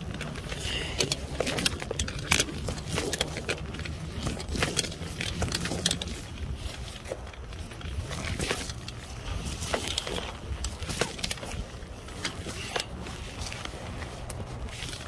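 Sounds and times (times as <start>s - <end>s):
climbing gear clinking and rattling: 0.0s - 15.0s
wind rumble on microphone: 0.0s - 15.0s.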